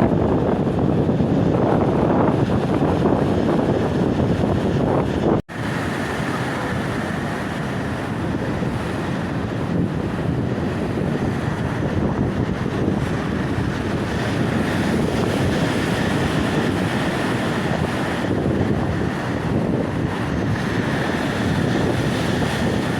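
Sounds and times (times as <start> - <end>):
surf washing onto shore: 0.0 - 22.9
wind buffeting microphone: 0.0 - 22.9.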